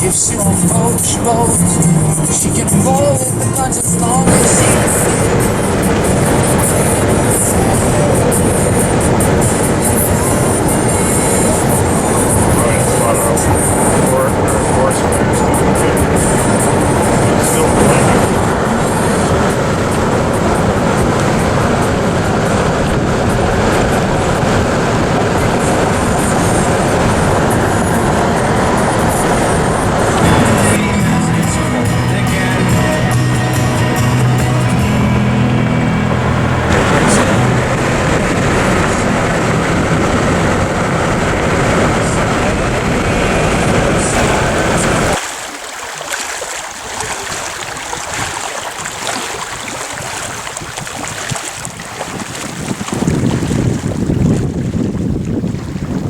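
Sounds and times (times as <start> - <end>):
water lapping and splashing: 0.0 - 30.8, 33.2 - 56.0
moving vehicle rumble: 0.0 - 45.2.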